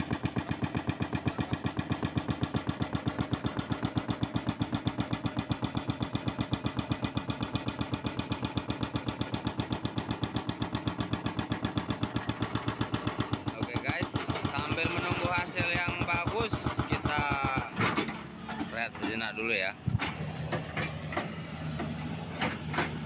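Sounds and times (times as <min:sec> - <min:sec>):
diesel engine running: 0:00.0 - 0:23.0
hydraulic breaker hammering concrete: 0:00.0 - 0:23.0.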